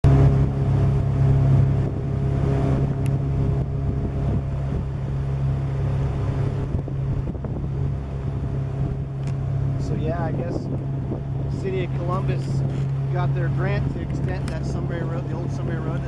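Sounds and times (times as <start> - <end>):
motorboat engine humming: 0.0 - 16.0
wind on microphone: 0.0 - 16.0.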